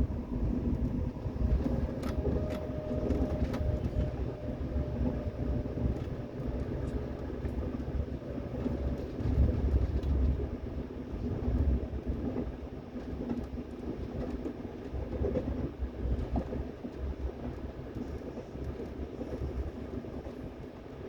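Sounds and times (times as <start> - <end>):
train rattling: 0.0 - 21.0
train rumbling on rails: 0.0 - 21.0.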